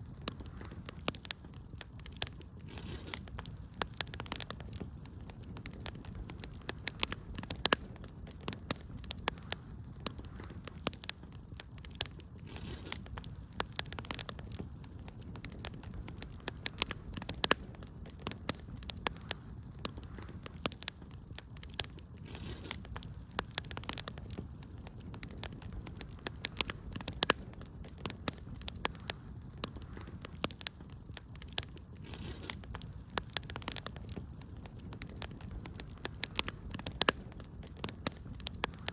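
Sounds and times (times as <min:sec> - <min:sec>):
low rumble of flame: 0:00.0 - 0:38.9
wood fire crackling: 0:00.0 - 0:38.9.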